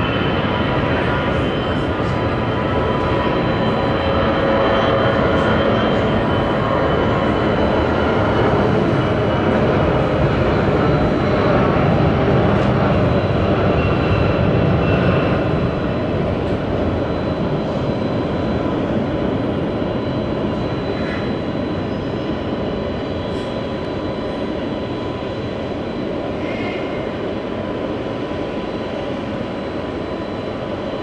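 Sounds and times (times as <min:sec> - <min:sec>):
jet engine rush: 0:00.0 - 0:29.0.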